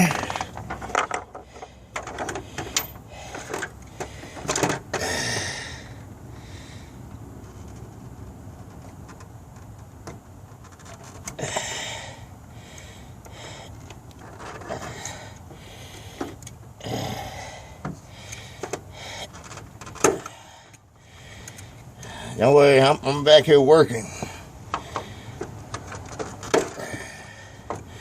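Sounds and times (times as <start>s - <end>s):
scraping and handling hose: 0.0s - 5.1s, 7.4s - 11.7s, 13.3s - 16.6s, 17.8s - 28.0s.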